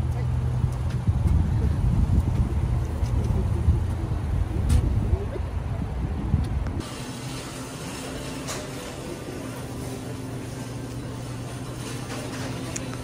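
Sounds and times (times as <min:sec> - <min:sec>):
low mechanical hum: 0:00.0 - 0:13.0
low vehicle rumble: 0:00.0 - 0:13.0.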